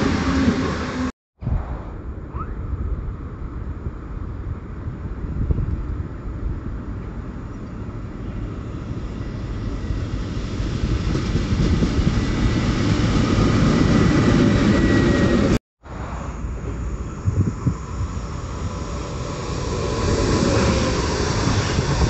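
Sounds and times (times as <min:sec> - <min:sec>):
train rumble and rail noise: 0:00.0 - 0:22.0.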